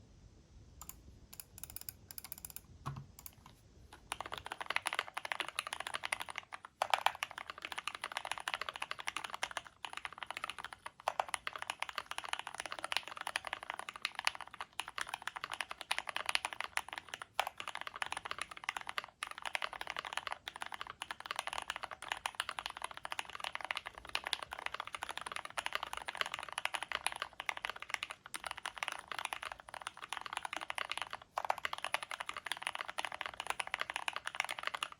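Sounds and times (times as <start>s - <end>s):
typing on mechanical keyboard: 0.8s - 34.9s.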